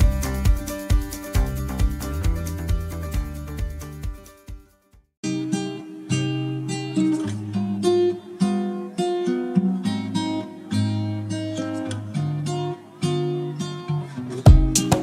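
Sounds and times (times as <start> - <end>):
acoustic guitar plucked chords: 0.0 - 15.0.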